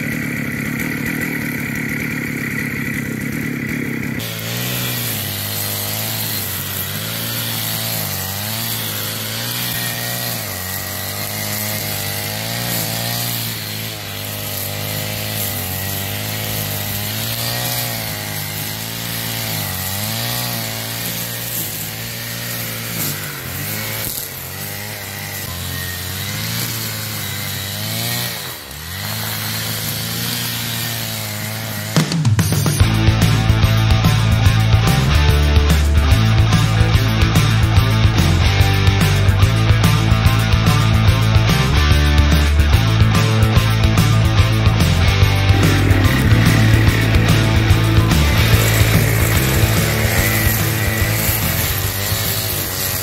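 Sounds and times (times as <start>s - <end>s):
brushcutter engine at high revs: 0.0s - 53.0s
nylon line cutting grass: 0.0s - 53.0s.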